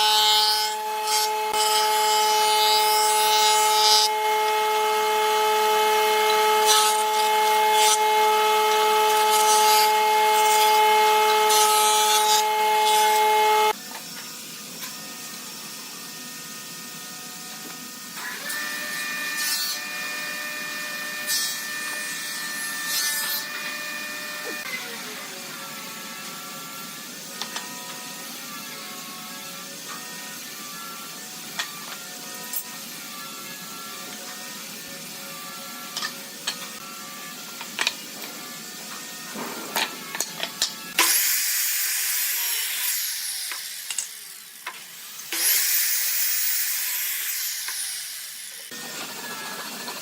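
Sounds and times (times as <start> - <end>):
power tool working wood: 0.0 - 50.0.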